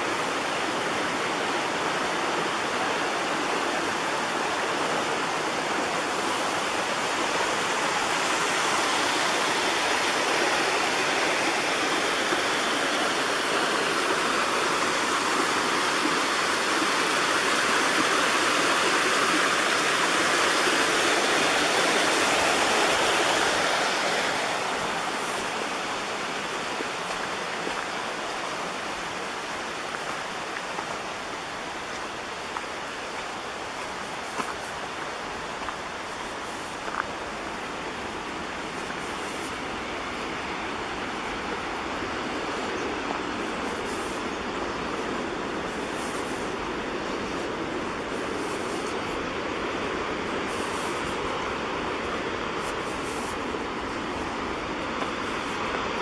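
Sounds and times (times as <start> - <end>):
creek water rushing: 0.0 - 56.0.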